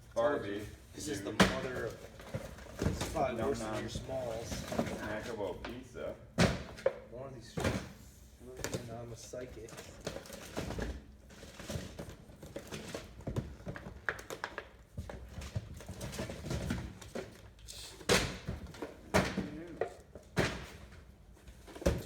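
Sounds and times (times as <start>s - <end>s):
plastic and cardboard packaging rustling: 1.0s - 6.9s, 7.6s - 22.0s.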